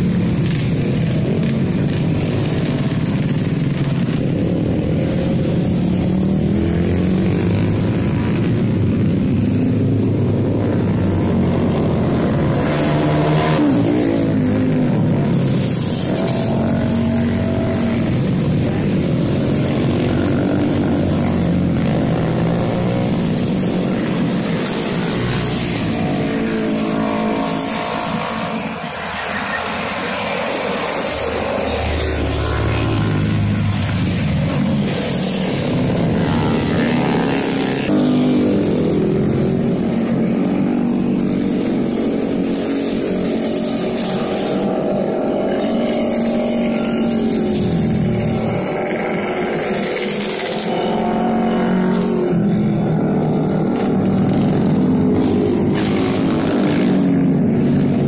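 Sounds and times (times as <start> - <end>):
motorcycles passing by: 0.0 - 58.0.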